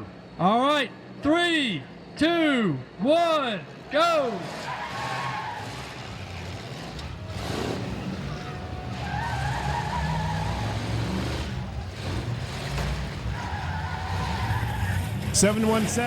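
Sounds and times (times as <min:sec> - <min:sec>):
car engines revving: 0:02.8 - 0:16.0.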